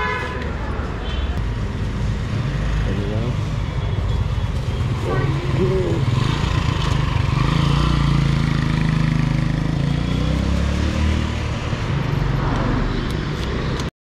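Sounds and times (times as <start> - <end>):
road noise: 0.0 - 13.9.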